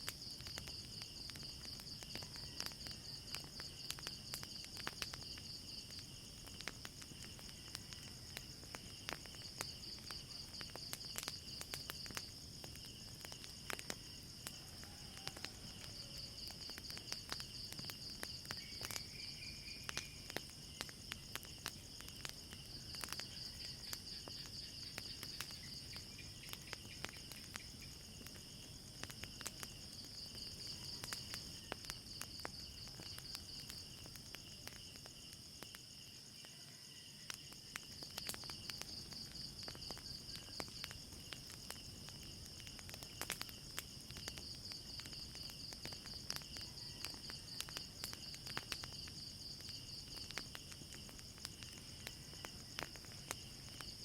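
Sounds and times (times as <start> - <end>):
crickets chirping: 0.0 - 54.0
wood fire crackling: 0.0 - 54.0.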